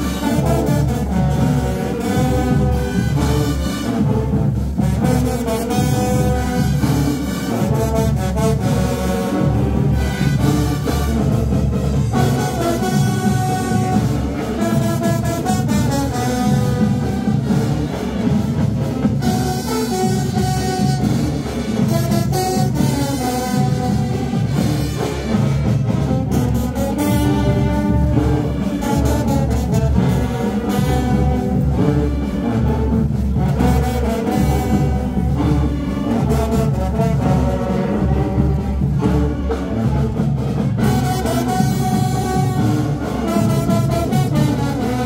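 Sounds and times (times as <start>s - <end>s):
drums: 0.0s - 45.0s
marching band playing: 0.0s - 45.0s
trumpets and trombones: 0.0s - 45.0s.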